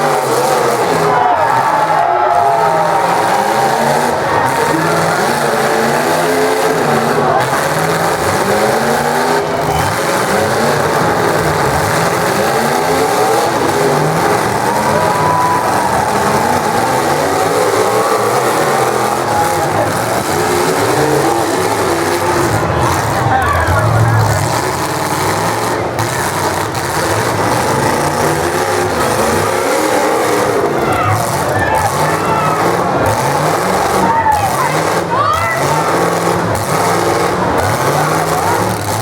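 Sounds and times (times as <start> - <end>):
car engines revving hard: 0.0 - 39.0
constant din: 0.0 - 39.0.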